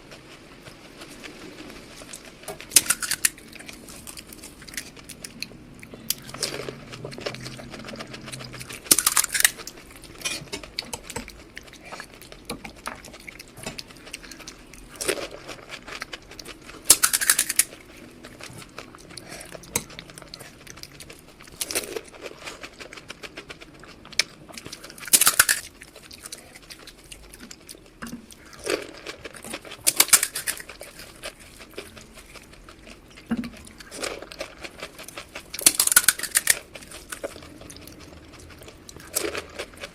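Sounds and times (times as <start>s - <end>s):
chewing and crinkling clicks: 0.0s - 39.9s
crisp bites crunching: 1.7s - 39.9s.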